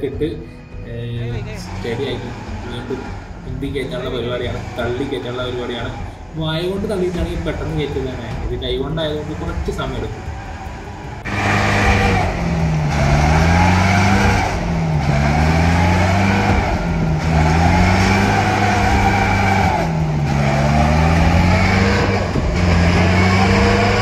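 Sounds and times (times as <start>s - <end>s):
diesel engine revving hard: 1.2s - 24.0s.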